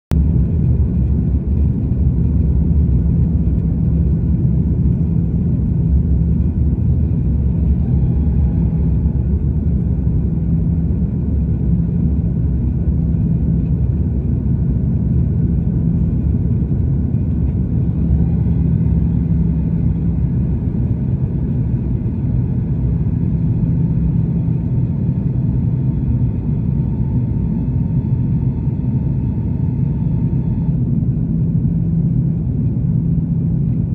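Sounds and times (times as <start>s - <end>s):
faint steady hum: 0.1s - 33.9s
jet engines rumbling: 0.1s - 33.9s.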